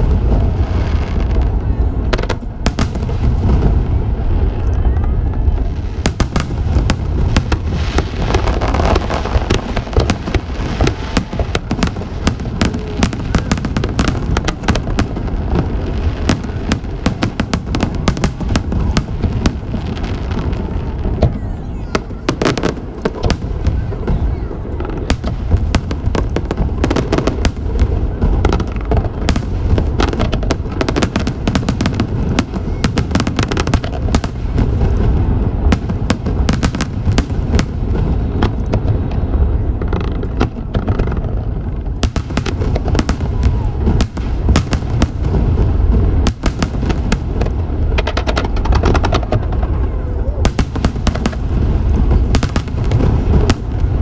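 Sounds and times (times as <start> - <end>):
deep rumble of bursting shells: 0.0 - 54.0
fireworks bangs and crackles: 0.0 - 54.0.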